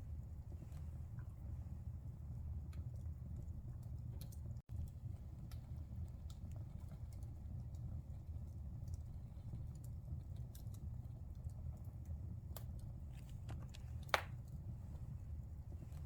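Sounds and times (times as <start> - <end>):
fire rumbling: 0.0 - 16.0
wood fire crackling and popping: 0.0 - 16.0.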